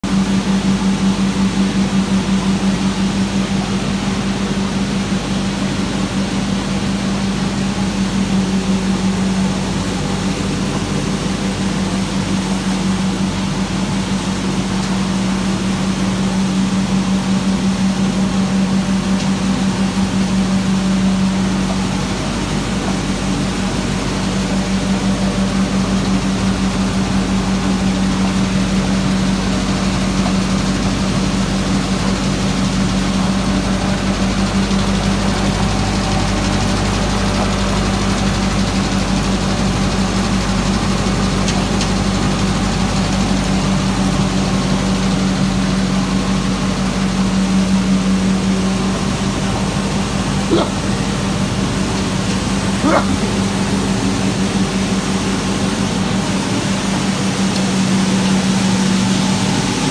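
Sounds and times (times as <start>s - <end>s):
mill machinery humming: 0.0s - 59.9s.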